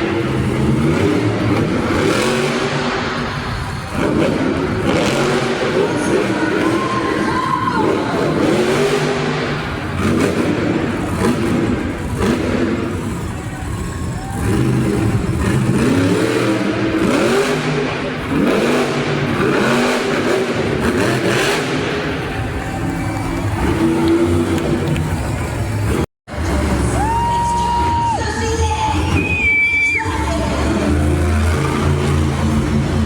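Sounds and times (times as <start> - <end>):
truck engines revving hard: 0.0 - 33.0.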